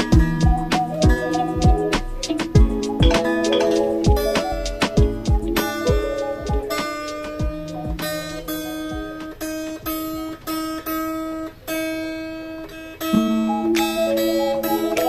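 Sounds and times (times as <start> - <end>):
guitar picked slow melody: 0.0 - 15.0.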